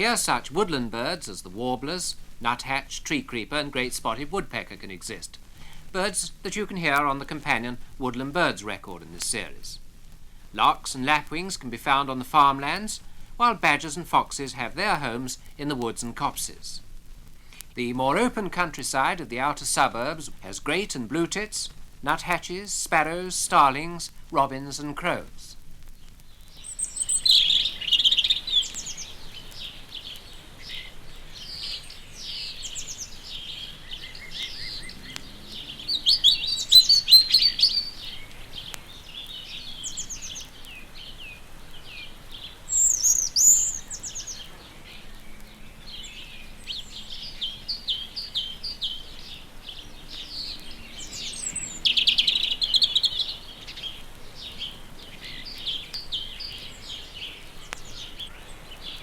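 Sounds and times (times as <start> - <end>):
songbirds twittering: 0.0 - 59.0.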